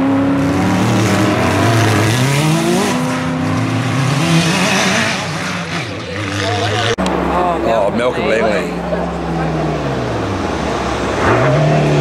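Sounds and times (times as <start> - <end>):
buggy engine revving: 0.0 - 8.0, 8.6 - 12.0.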